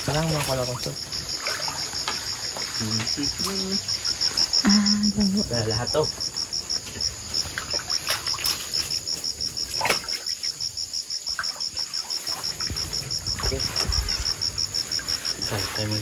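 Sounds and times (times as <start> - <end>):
sharp noises from water: 0.0 - 4.6, 6.7 - 16.0
crickets chirping: 0.0 - 16.0.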